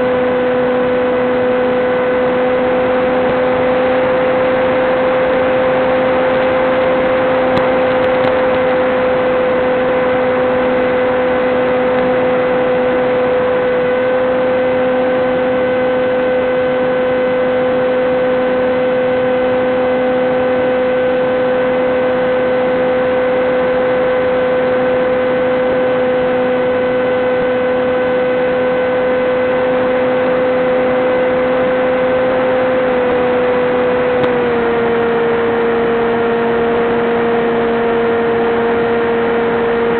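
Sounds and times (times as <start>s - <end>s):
electric motor and propeller buzzing: 0.0s - 39.9s.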